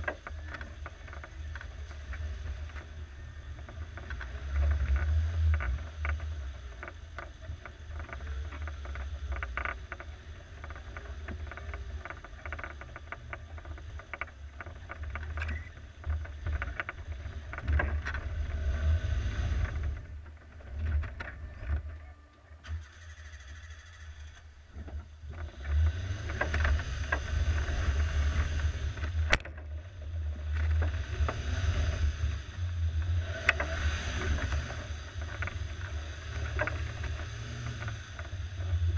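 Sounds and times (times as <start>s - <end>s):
off-road vehicle engine rumble: 0.0s - 38.9s.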